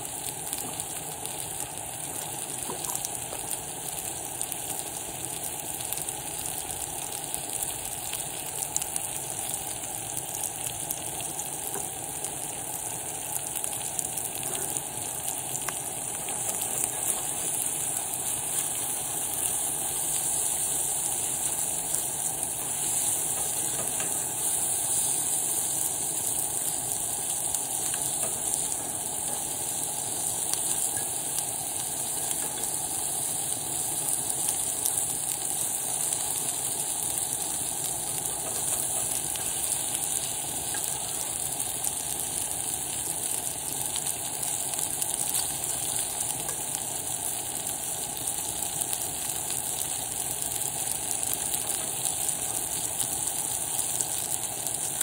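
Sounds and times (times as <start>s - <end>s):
food sizzling in skillet: 0.0s - 55.0s.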